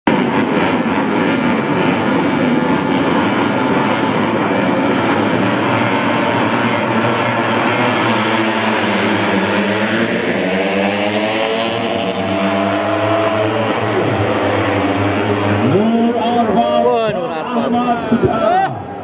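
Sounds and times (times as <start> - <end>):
racing motorcycles at full throttle: 0.0 - 19.0.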